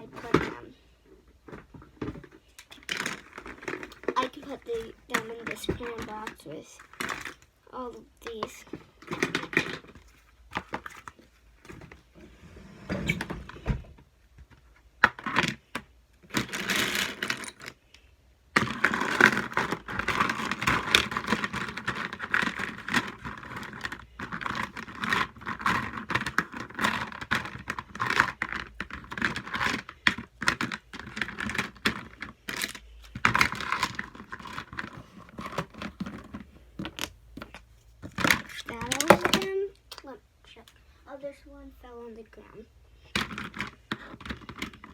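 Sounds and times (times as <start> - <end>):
plastic markers clattering: 0.0 - 0.8, 1.4 - 12.0, 14.4 - 17.8, 18.5 - 40.8, 42.9 - 44.9.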